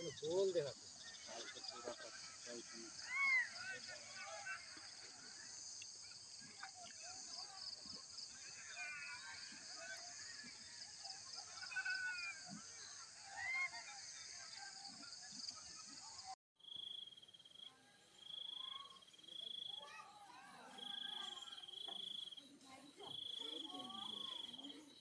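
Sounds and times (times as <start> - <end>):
cricket trilling: 0.0 - 19.9, 20.7 - 25.0
birds chirping: 0.0 - 25.0.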